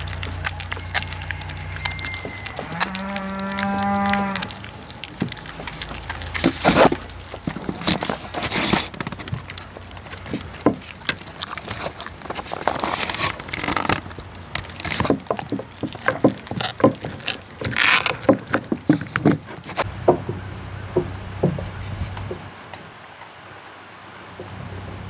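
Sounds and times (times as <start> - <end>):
dog gnawing a bone: 0.0 - 20.4.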